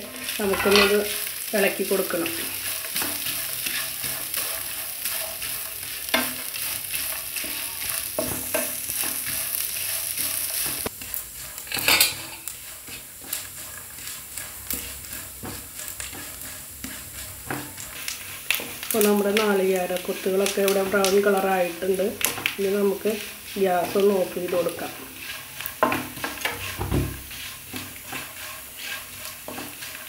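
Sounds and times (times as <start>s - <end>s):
food sizzling in oil: 0.0s - 30.0s
wooden spatula scraping pan: 0.0s - 30.0s.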